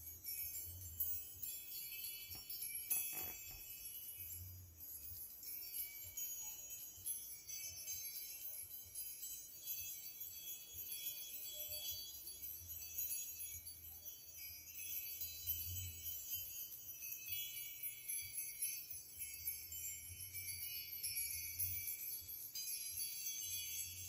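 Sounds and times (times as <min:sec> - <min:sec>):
wind chimes tinkling: 0:00.0 - 0:24.0.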